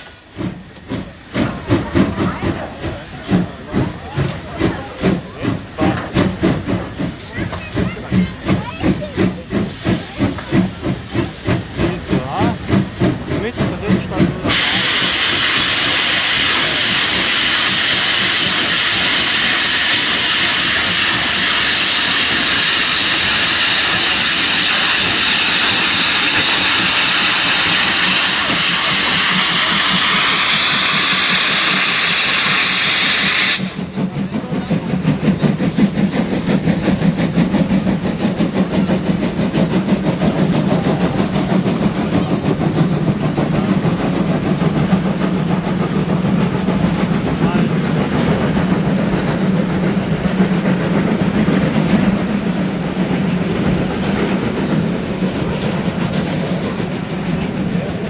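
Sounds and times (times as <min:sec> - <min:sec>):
steam hissing with whistling tones: 0:00.0 - 0:58.0
steam train rhythmic chugging: 0:00.0 - 0:58.0.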